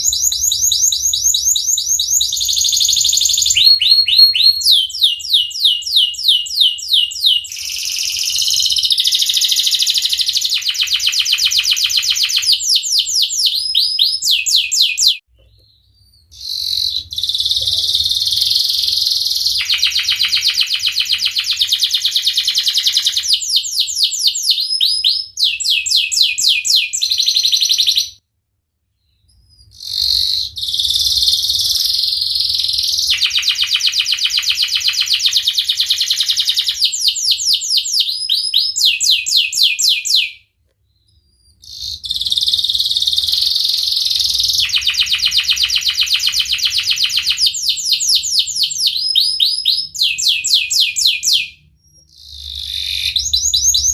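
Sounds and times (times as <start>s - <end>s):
canary singing trills: 0.0s - 28.2s, 29.0s - 53.9s.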